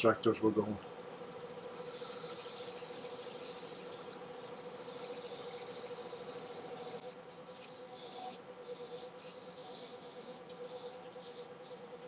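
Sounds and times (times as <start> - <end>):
cloth hissing on spinning wood: 1.7 - 11.8.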